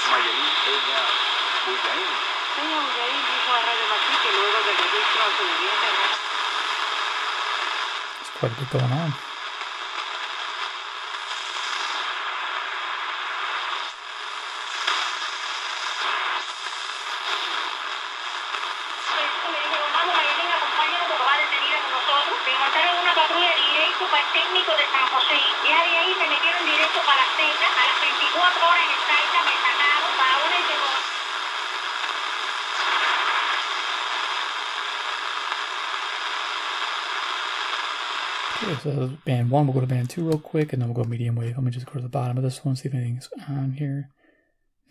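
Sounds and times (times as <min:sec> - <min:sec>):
shortwave radio static hissing: 0:00.0 - 0:43.7.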